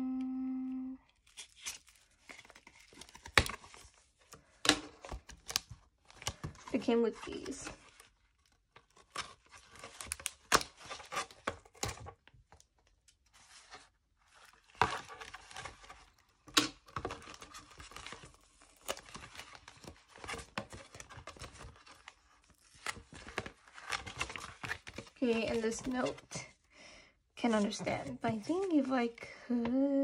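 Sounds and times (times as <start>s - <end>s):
paper and plastic crinkling: 1.1s - 26.6s.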